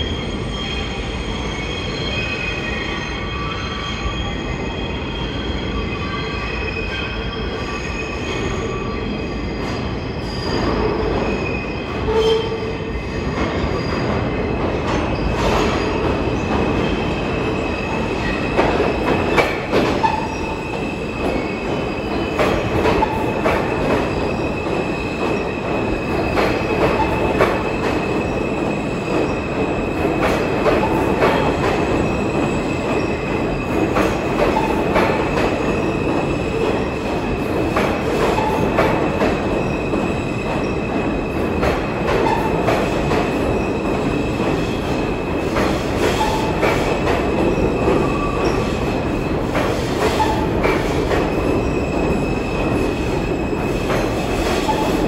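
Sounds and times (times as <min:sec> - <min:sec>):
subway wheel squeal: 0:00.0 - 0:55.0
train rumble: 0:09.4 - 0:55.0.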